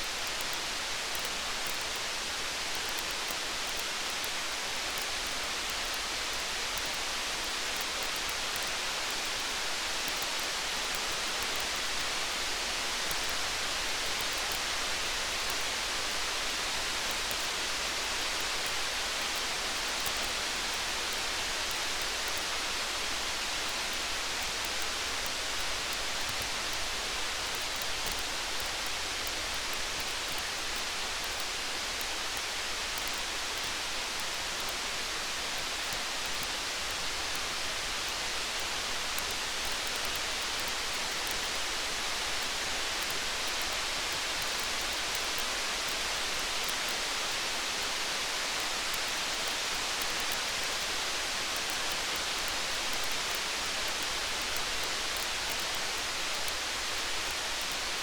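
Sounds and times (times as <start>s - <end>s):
faint fine ticks: 0.0s - 58.0s
steady rain hiss: 0.0s - 58.0s.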